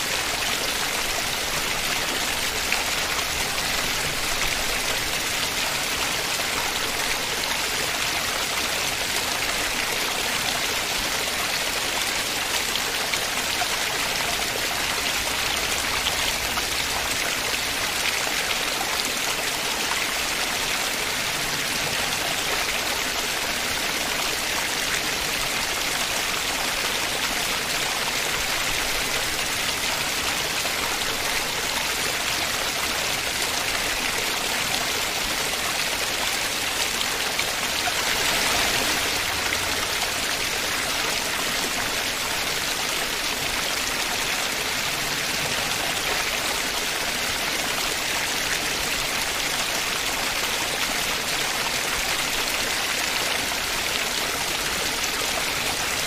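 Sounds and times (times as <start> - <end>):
waterfall pouring: 0.0 - 56.0.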